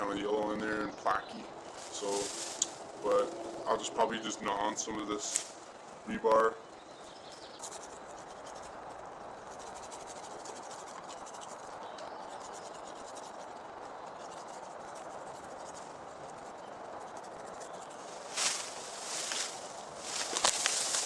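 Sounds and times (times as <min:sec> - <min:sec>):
insects chirring: 0:00.0 - 0:21.0
low outdoor hiss: 0:00.0 - 0:21.0.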